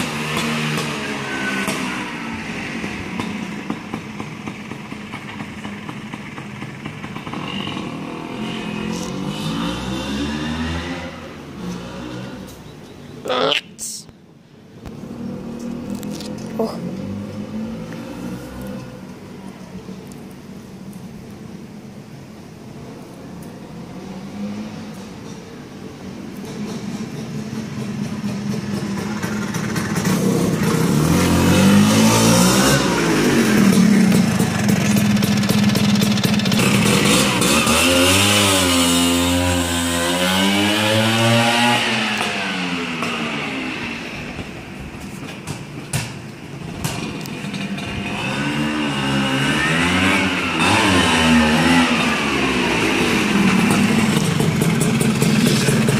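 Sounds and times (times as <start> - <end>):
scooter engine passing: 0.0 - 12.8, 14.9 - 19.8, 22.7 - 55.9.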